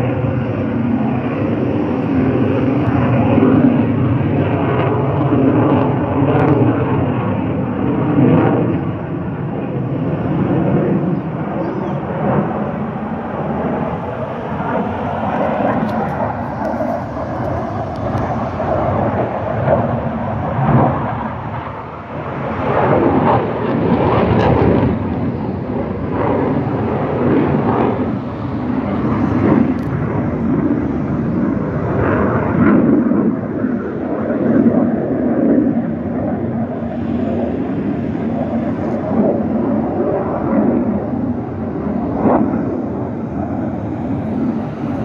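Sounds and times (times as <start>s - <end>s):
aircraft flying overhead: 0.0s - 45.0s.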